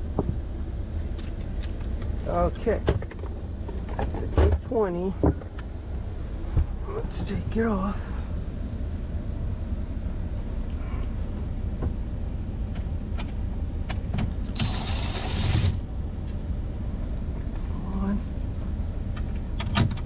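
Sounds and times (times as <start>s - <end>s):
low rumble: 0.0s - 19.6s.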